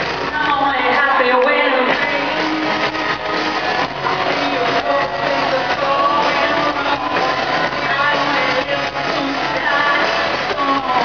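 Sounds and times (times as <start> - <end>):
electric guitars: 0.0 - 11.0
woman singing: 0.3 - 2.9, 4.0 - 11.0
live rock band playing: 1.8 - 11.0.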